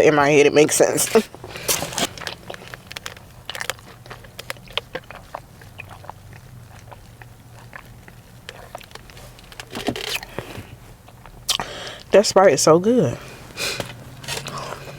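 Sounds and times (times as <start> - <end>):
steady low hum: 0.0 - 14.9
chewing crispy food: 1.0 - 12.2, 13.7 - 14.9.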